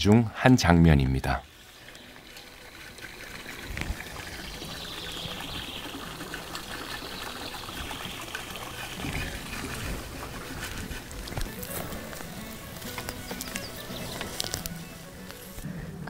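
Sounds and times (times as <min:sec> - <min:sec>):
sprinkler spraying water: 0:01.5 - 0:15.6.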